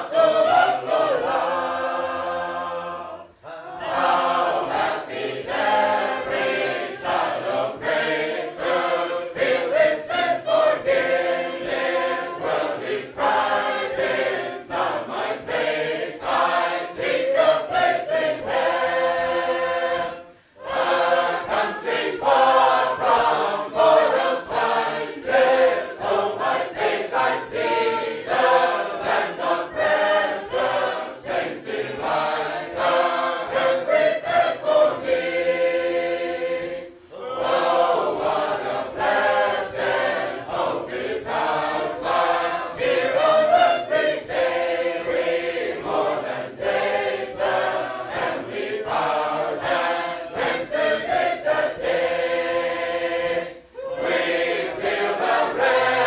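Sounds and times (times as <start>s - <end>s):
choir singing a hymn a cappella: 0.0s - 56.0s.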